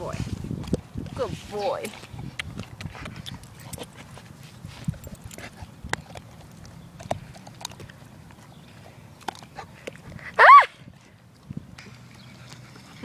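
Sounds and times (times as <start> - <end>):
dog chewing grass: 0.0 - 13.0.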